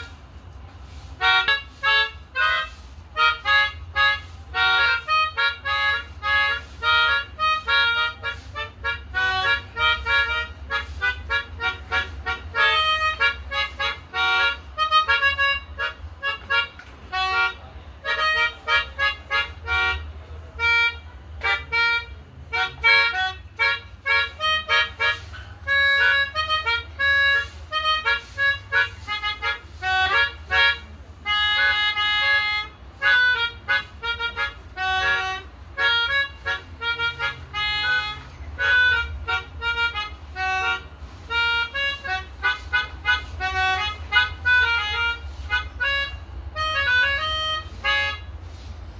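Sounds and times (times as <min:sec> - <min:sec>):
melodica melody: 0:00.0 - 0:00.2, 0:00.8 - 0:48.7.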